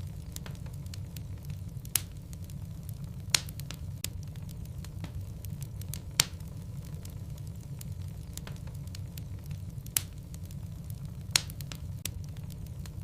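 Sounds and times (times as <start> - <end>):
low rumble of flames: 0.0 - 13.0
wood crackling and popping: 0.0 - 13.0.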